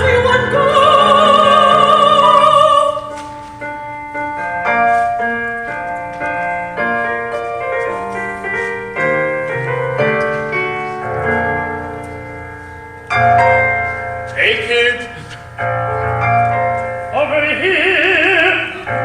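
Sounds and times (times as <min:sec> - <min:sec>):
piano notes and chords: 0:00.0 - 0:19.0.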